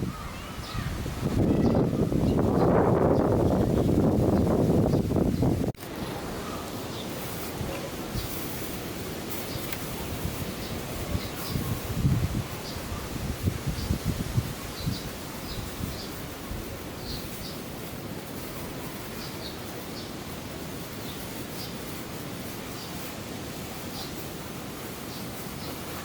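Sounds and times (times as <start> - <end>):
outdoor background hiss: 0.0 - 26.0
small birds chirping: 0.0 - 26.0.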